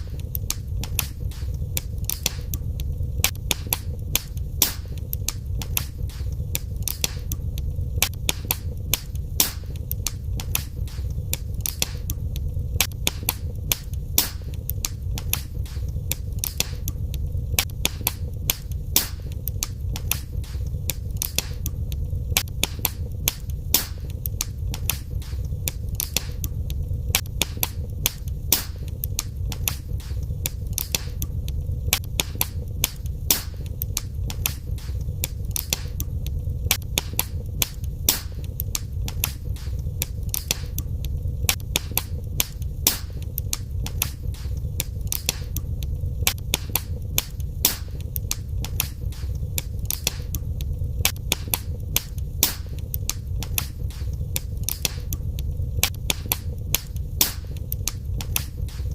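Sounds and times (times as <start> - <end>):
low rumble of flames: 0.0 - 58.9
sharp pops and snaps of fire: 0.0 - 58.9
wood fire crackling: 0.0 - 58.9.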